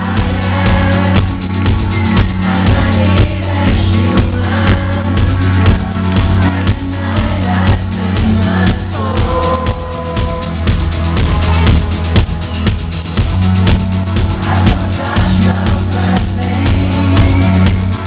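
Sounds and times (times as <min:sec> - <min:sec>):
live rock music: 0:00.0 - 0:18.0.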